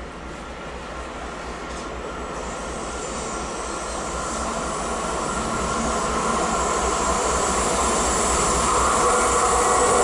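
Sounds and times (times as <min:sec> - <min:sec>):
diesel locomotive engine rumbling: 0:00.0 - 0:10.0
train wheels on rails: 0:00.0 - 0:10.0.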